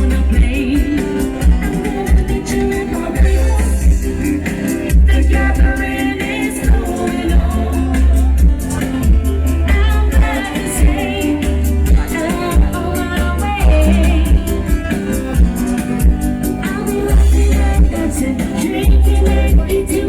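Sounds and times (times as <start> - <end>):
pop music with singing: 0.0 - 20.0.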